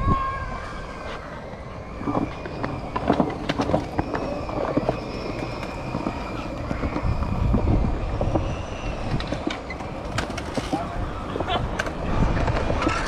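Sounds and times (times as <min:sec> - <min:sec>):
skateboard wheels rolling on concrete: 0:00.0 - 0:13.0
skateboard clacks and knocks: 0:02.1 - 0:13.0.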